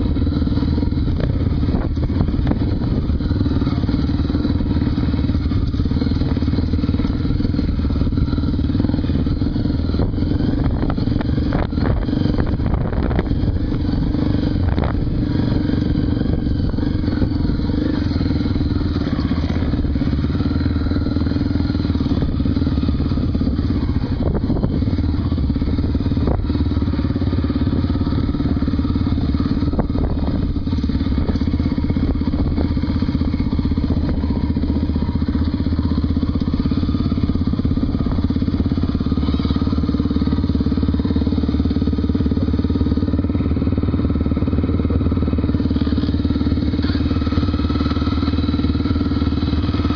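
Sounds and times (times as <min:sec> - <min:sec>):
motorcycle engine under load: 0:00.0 - 0:49.9.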